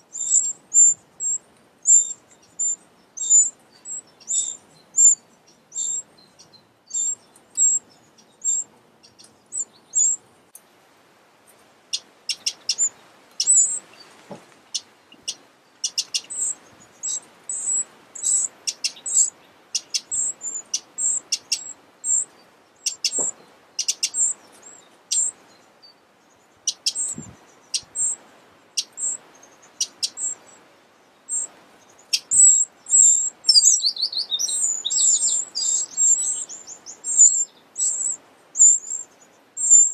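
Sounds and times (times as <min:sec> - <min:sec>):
nestlings high thin peeps: 0:00.1 - 0:06.1, 0:06.9 - 0:07.8, 0:11.9 - 0:25.4, 0:26.7 - 0:28.2, 0:28.8 - 0:30.4, 0:31.3 - 0:39.9.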